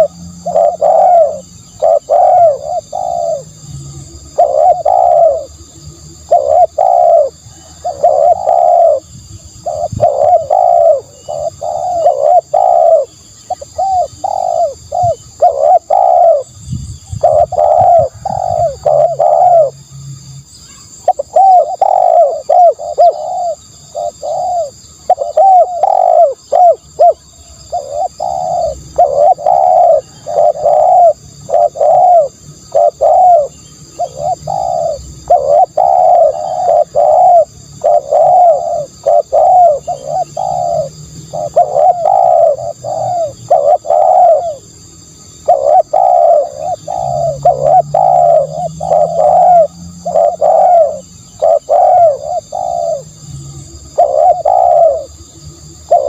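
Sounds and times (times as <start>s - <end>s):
dove cooing: 0.0s - 19.8s, 20.7s - 56.0s.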